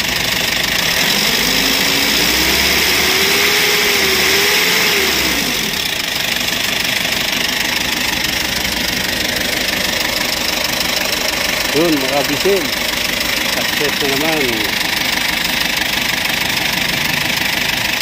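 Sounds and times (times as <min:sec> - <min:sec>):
diesel engine revving and idling: 0:00.0 - 0:18.0.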